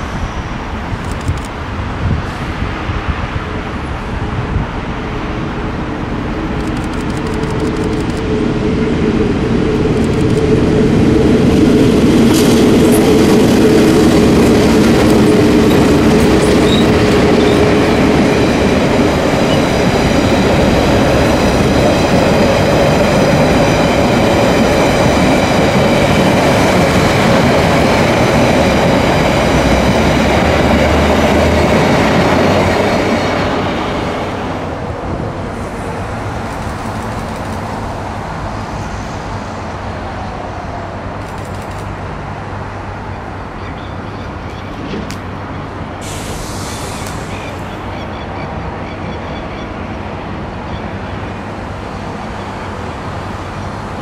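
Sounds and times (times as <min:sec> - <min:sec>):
train wheels on rails: 0:00.0 - 0:42.0, 0:44.4 - 0:48.0
diesel locomotive engine: 0:00.0 - 0:54.0.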